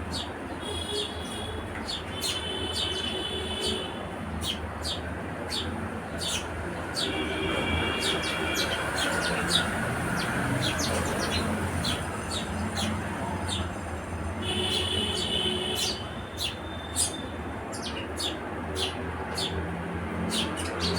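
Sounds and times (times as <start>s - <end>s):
sparrows chirping: 0.0s - 20.9s.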